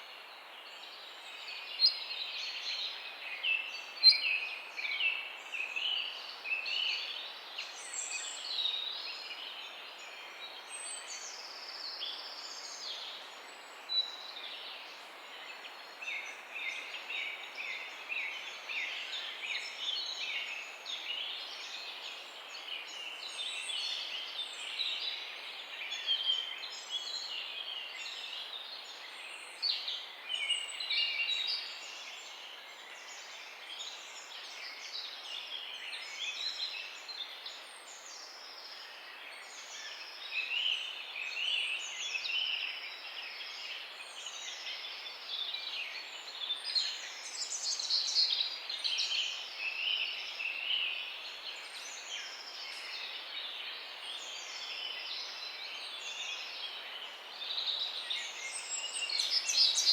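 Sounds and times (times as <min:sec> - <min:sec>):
faint steady hiss: 0:00.0 - 0:59.9
songbirds chirping and warbling: 0:00.0 - 0:59.9.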